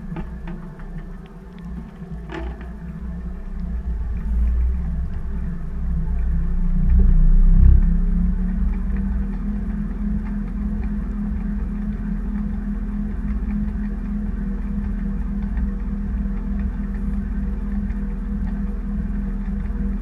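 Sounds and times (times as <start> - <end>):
washing machine drum speeding up: 0.0 - 20.0.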